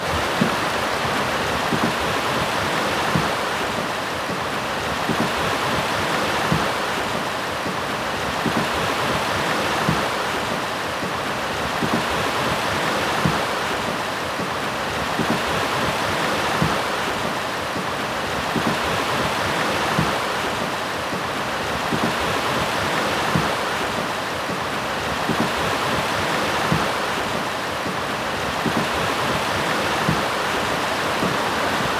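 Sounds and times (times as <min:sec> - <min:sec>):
river rushing over rocks: 0:00.0 - 0:31.9.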